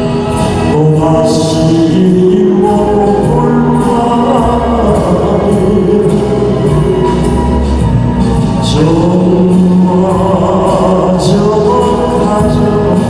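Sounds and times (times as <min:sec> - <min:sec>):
man singing into a microphone: 0:00.0 - 0:07.5, 0:08.5 - 0:13.0
instrumental accompaniment: 0:00.0 - 0:13.0.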